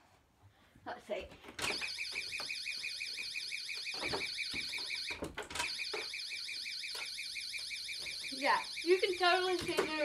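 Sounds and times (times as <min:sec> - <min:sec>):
shrill warbling alarm siren: 0:01.7 - 0:10.0.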